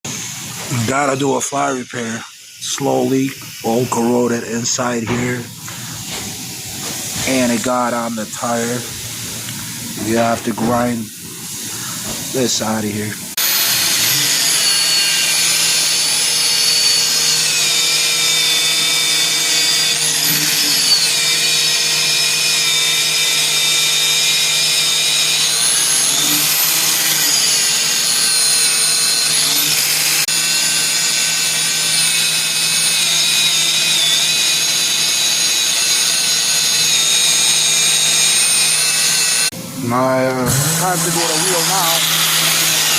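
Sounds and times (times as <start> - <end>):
power grinder whining: 0.1 - 42.9.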